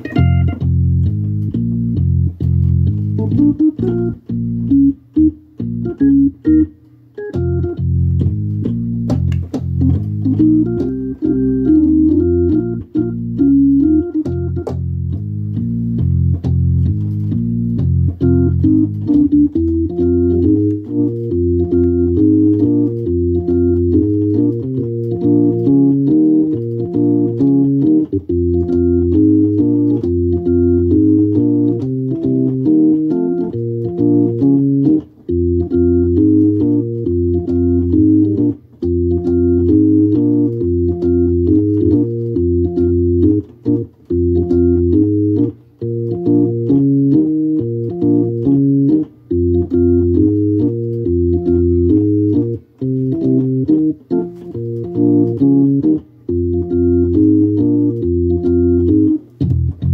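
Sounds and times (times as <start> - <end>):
organ chords over bass line: 0.0 - 59.9.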